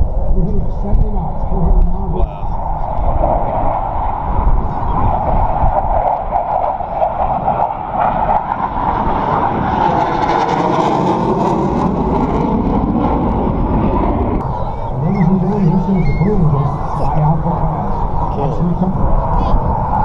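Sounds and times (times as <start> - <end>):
jet roaring overhead: 0.0 - 20.0.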